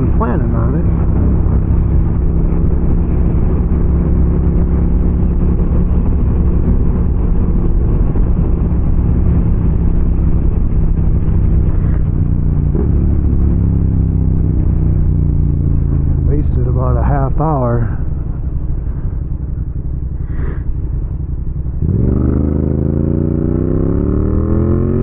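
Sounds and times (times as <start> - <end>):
rushing wind: 0.0 - 16.2, 17.9 - 25.0
motorcycle engine running: 0.0 - 25.0.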